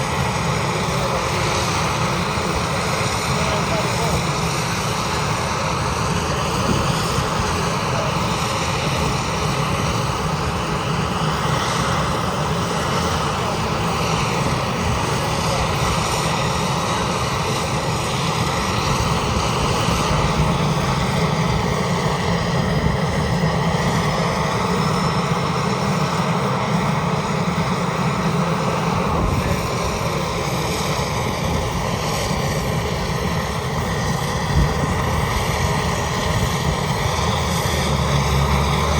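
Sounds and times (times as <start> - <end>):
helicopter engines and rotors whining: 0.0 - 38.9.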